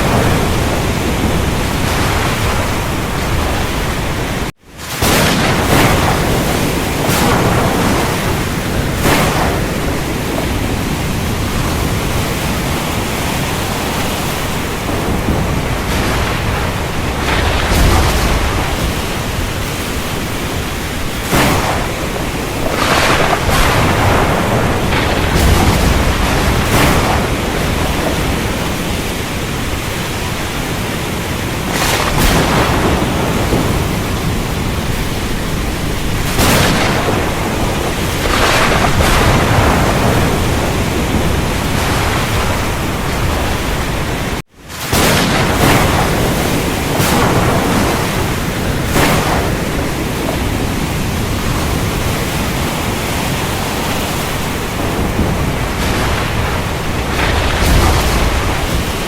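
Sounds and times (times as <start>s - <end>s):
dense rain hiss: 0.0s - 59.0s.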